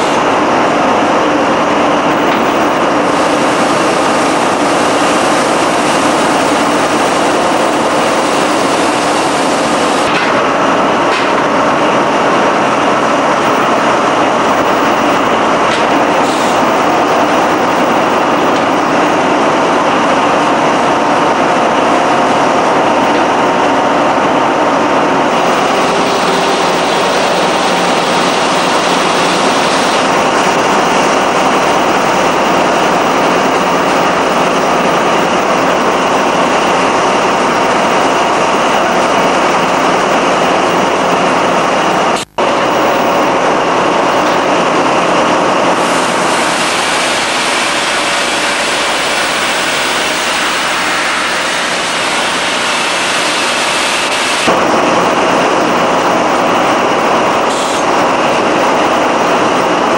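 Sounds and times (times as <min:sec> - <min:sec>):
engine room machinery running: 0:00.0 - 0:59.9.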